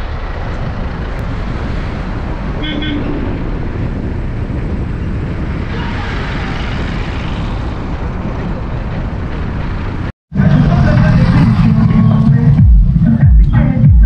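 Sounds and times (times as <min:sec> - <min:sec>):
wind buffeting microphone: 0:00.0 - 0:13.2
wind and road noise: 0:00.0 - 0:13.9.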